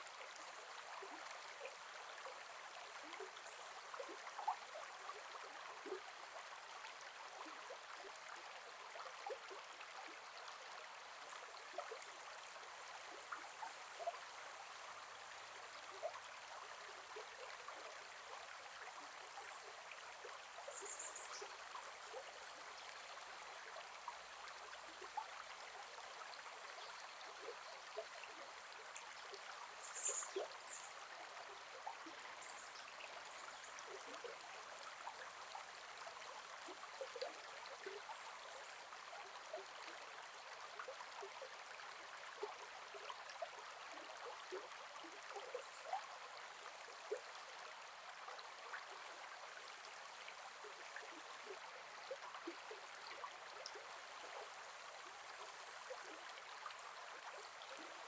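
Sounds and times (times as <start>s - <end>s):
shallow river flowing: 0.0s - 58.0s.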